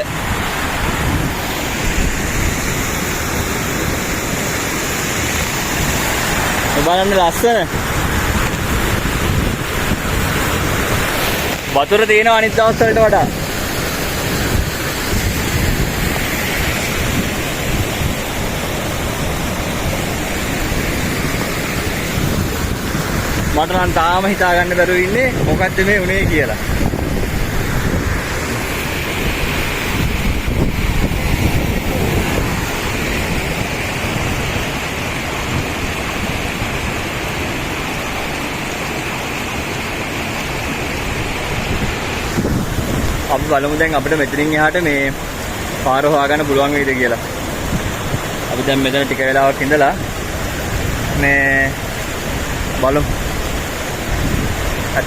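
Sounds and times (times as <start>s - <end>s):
wind buffeting on microphone: 0.0s - 44.4s, 47.2s - 48.6s, 49.9s - 55.0s
waterfall rushing: 0.0s - 55.0s.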